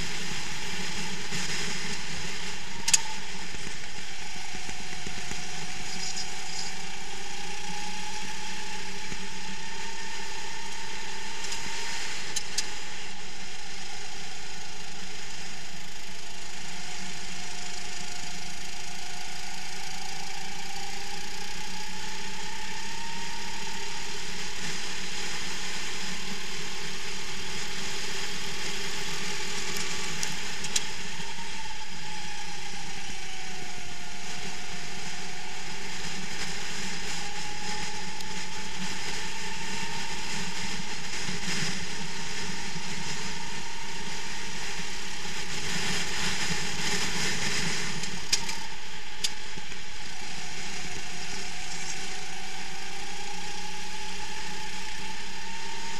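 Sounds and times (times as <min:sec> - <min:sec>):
kart engine running hard: 0:00.0 - 0:55.9.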